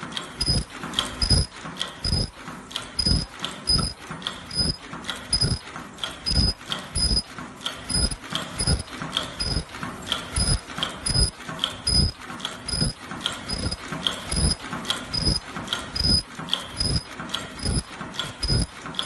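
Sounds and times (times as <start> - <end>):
mask-making machine running: 0.0 - 19.0.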